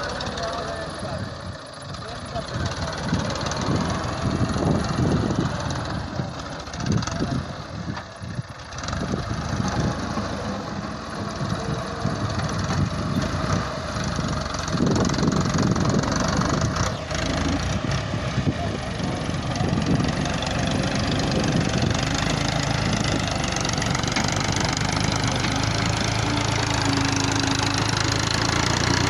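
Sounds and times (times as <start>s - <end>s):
tractor engine under load: 0.0s - 29.0s.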